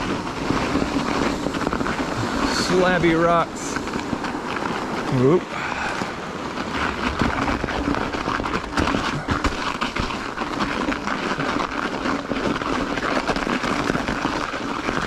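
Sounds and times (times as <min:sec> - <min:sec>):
bike knocking over trail: 0:00.0 - 0:15.0
bike tyres crunching icy snow: 0:00.0 - 0:15.0.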